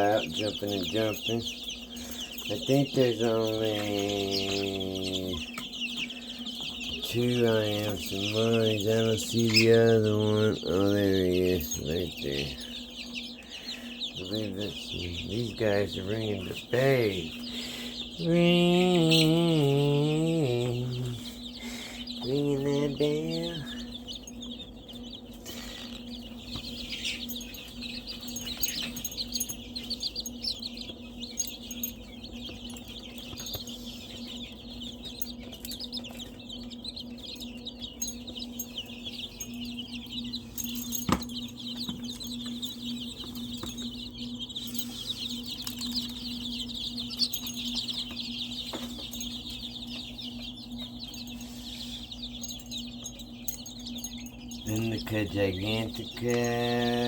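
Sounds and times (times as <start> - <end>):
chicks and quail peeping: 0.0 - 57.0
steady low hum: 0.0 - 57.0.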